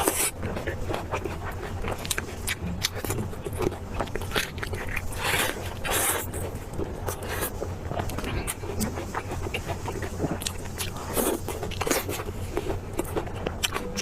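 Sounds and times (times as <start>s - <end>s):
chewing and biting meat: 0.0s - 14.0s.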